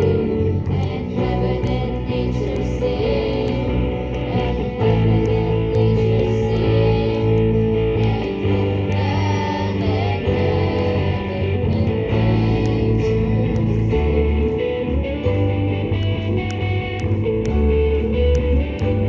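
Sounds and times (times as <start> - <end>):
electric bass notes: 0.0 - 19.0
electric guitar chords: 0.0 - 19.0.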